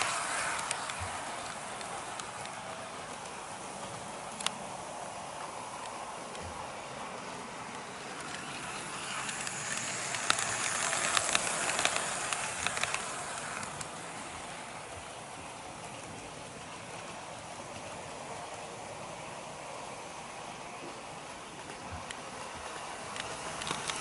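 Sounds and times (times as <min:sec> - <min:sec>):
model train rolling: 0:00.0 - 0:24.0
wheels clicking over rail joints: 0:00.0 - 0:24.0.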